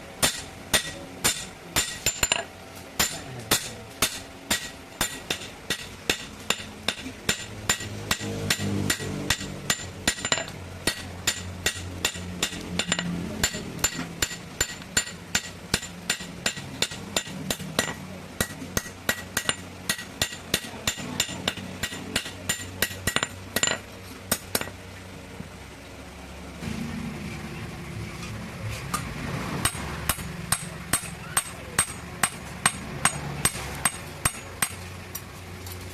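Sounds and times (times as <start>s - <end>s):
hammer striking metal anvil: 0.2s - 24.8s, 29.6s - 34.8s.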